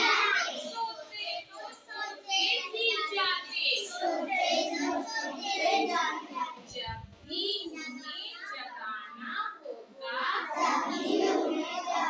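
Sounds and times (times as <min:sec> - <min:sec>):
children chanting a poem: 0:00.0 - 0:08.5, 0:10.0 - 0:12.0.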